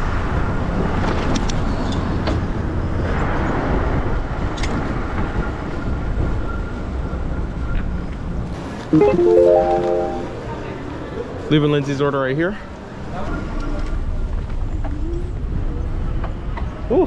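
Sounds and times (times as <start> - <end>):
city traffic noise: 0.0 - 8.9, 10.3 - 17.0.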